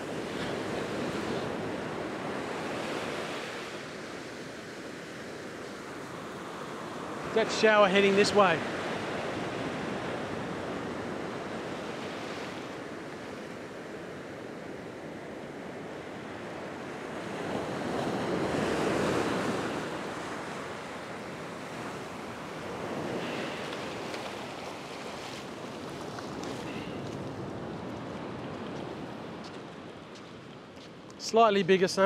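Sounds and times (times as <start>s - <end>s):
ocean surf breaking: 0.0s - 29.9s.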